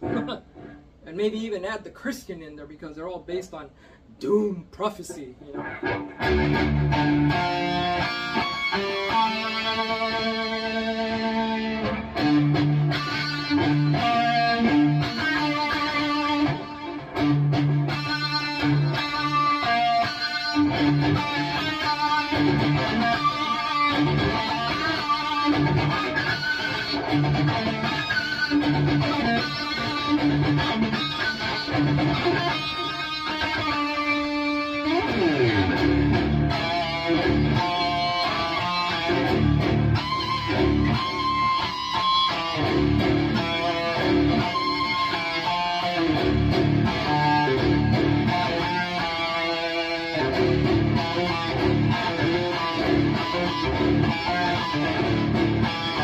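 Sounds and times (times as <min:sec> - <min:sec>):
distorted electric guitar riff: 0:00.0 - 0:01.0, 0:05.4 - 0:56.0.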